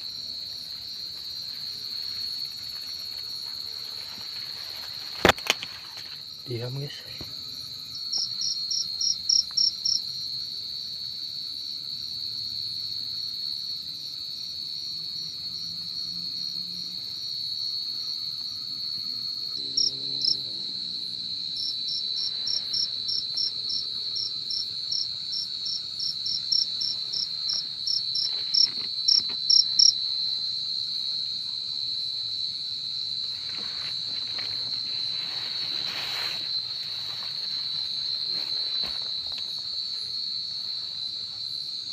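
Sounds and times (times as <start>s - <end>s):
cricket chirping close: 0.0s - 41.9s
crickets trilling: 0.0s - 41.9s.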